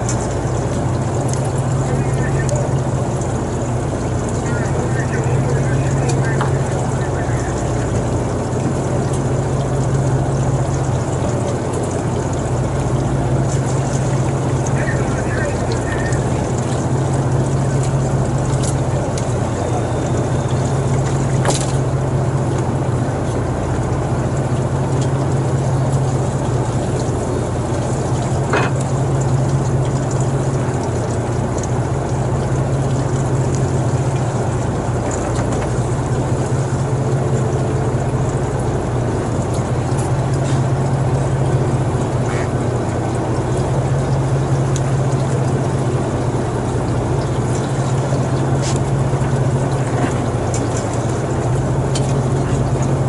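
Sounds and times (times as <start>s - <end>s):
boat engine humming: 0.0s - 53.0s
water noise: 0.0s - 53.0s.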